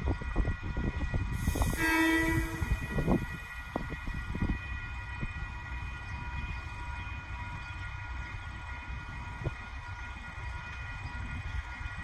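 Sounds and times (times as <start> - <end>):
distant freight train rumble: 0.0 - 12.0.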